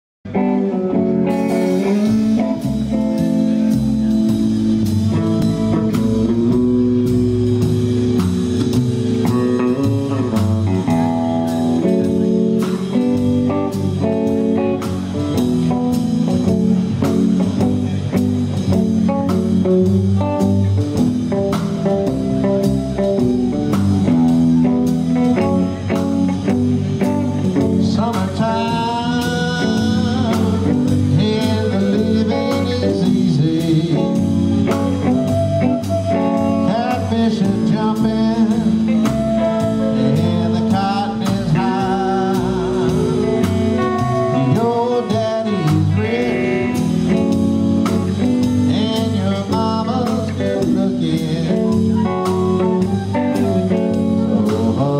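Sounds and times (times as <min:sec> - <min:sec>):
band music with guitar and drums: 0:00.2 - 0:54.9.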